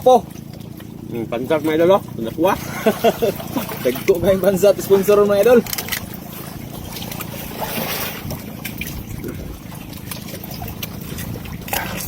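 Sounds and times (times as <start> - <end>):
steady low drone: 0.0 - 12.0
water trickling: 0.0 - 12.0.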